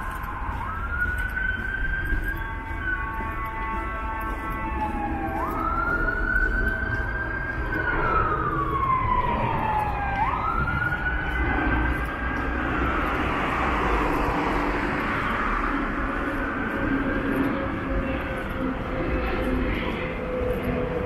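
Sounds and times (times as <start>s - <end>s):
emergency siren wailing: 0.0s - 21.0s
road traffic noise: 0.0s - 21.0s.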